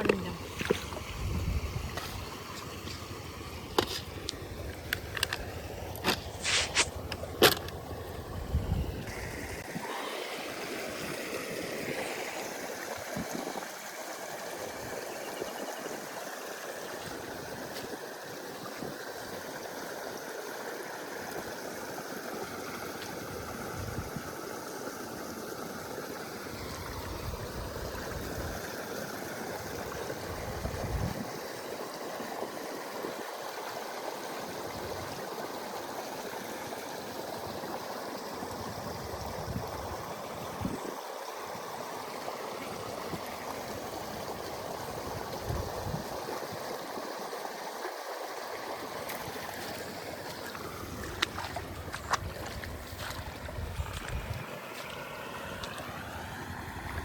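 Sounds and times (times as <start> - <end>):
rushing flowing water: 0.0 - 57.0.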